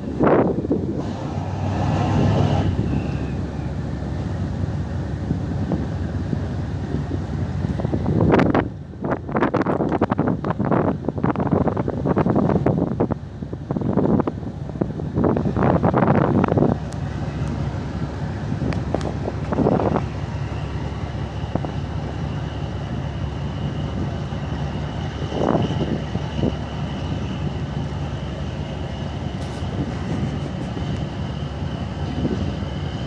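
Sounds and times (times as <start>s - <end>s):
ship engine low rumble: 0.0s - 33.0s
wind buffeting microphone: 0.0s - 33.0s.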